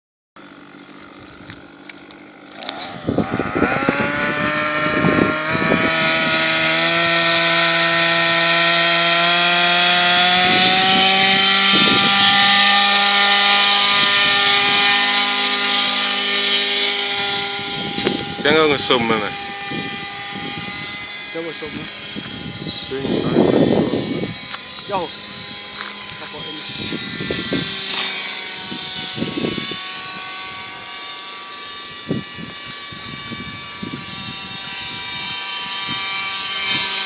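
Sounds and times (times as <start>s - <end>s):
model helicopter engine revving: 0.4s - 37.0s.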